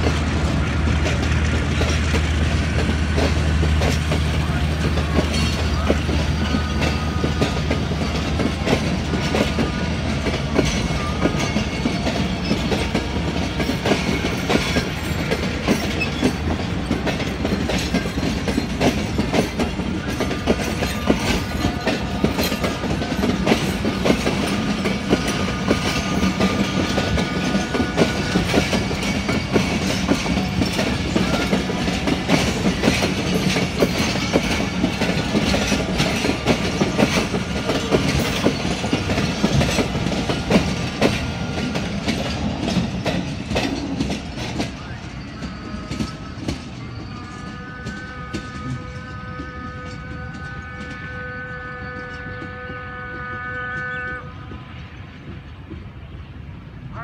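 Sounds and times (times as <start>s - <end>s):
train wheels clacking over rail joints: 0.0s - 56.5s.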